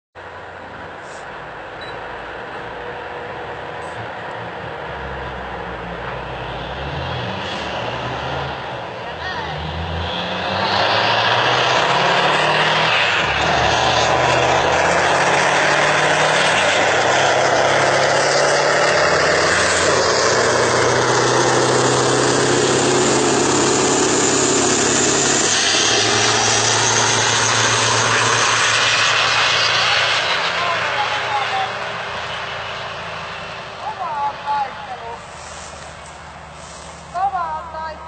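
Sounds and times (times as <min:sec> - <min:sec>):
truck diesel engines accelerating: 0:00.2 - 0:38.0.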